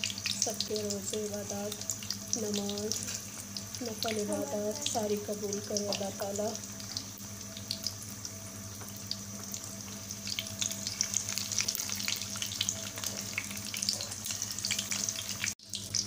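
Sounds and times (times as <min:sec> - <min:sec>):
deep-frying sizzle with pops: 0:00.0 - 0:16.0.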